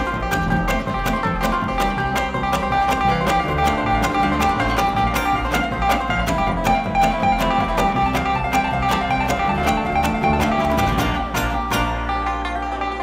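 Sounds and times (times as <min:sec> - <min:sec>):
bluegrass band playing: 0:00.0 - 0:13.0.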